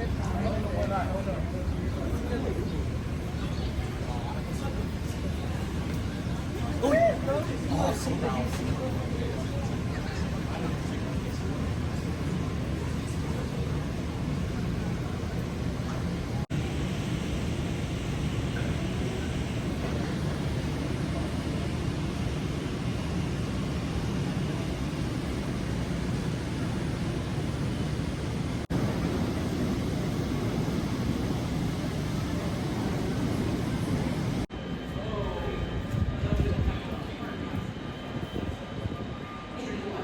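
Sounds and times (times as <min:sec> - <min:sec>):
distant traffic rumble: 0:00.0 - 0:34.5.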